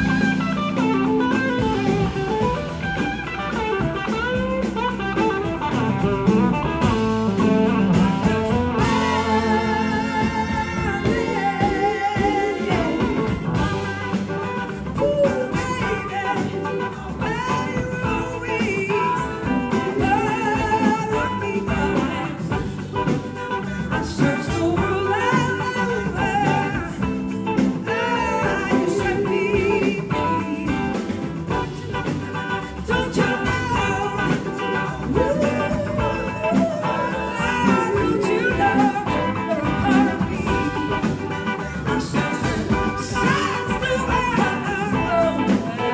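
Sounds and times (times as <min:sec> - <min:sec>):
blues-rock band playing: 0:00.0 - 0:45.9
woman singing: 0:07.4 - 0:45.9.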